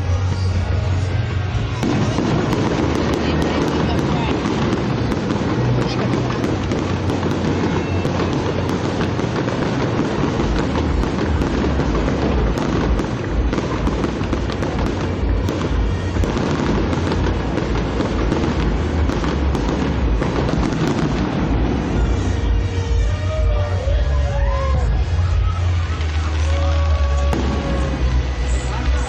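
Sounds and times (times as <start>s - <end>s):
fireworks cracks and crackles: 0.0s - 29.0s.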